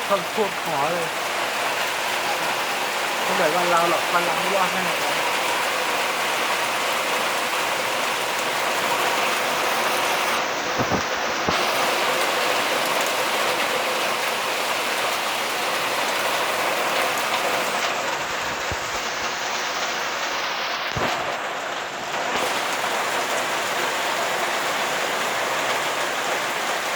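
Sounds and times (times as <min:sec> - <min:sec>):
heavy rain pouring: 0:00.0 - 0:26.9.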